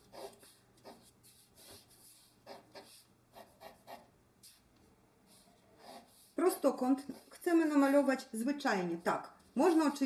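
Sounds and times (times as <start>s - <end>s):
pencil scratching on paper: 0.0s - 4.7s, 5.3s - 8.1s, 8.7s - 10.0s.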